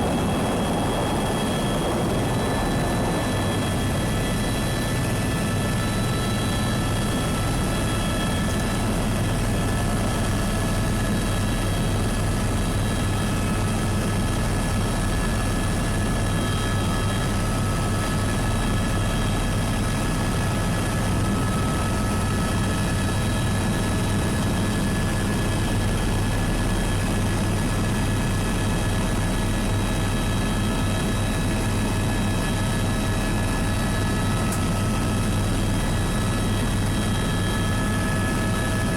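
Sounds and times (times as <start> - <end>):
helicopter rotor drone: 0.0 - 38.9
high turbine whine: 0.0 - 38.9.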